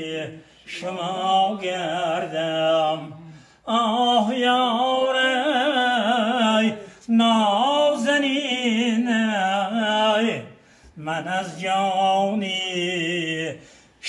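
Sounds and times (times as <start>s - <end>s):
man singing: 0.0s - 13.6s.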